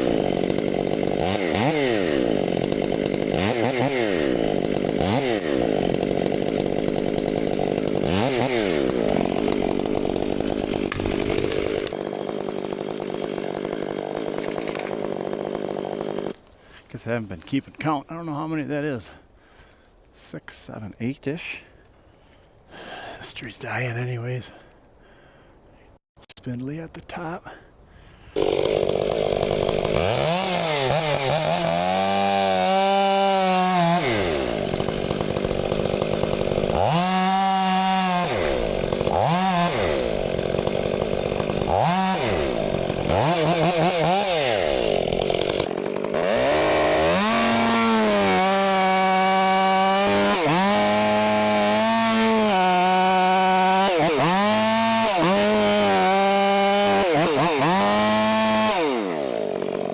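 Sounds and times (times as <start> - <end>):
chainsaw revving and cutting: 0.0 - 19.2, 28.4 - 59.9.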